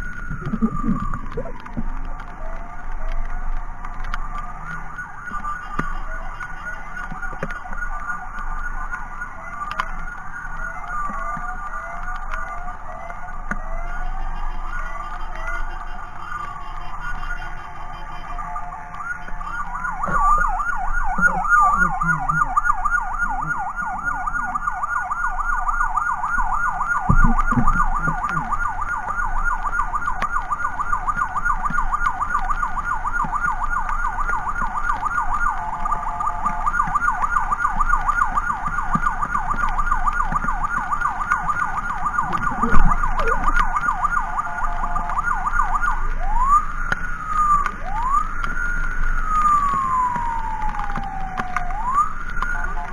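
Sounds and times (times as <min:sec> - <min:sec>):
electronic siren yelping and wailing: 0:00.0 - 0:52.9.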